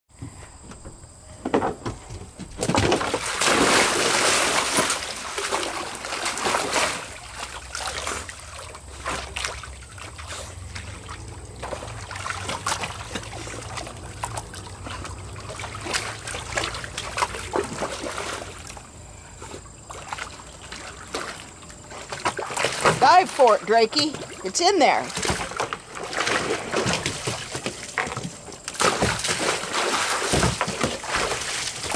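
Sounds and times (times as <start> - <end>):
dog splashing in water: 2.6 - 31.9.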